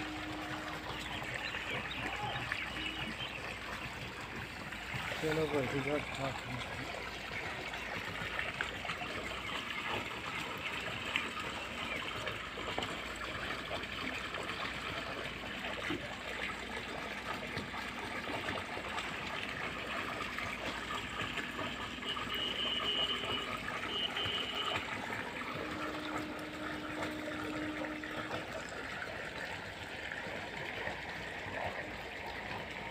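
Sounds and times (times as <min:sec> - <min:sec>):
water trickling and splashing: 0:00.0 - 0:32.9.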